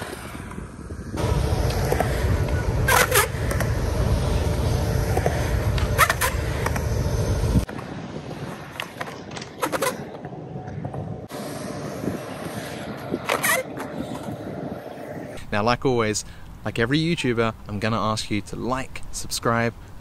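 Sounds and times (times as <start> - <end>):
skateboard wheels rolling on concrete: 0.0 - 17.1.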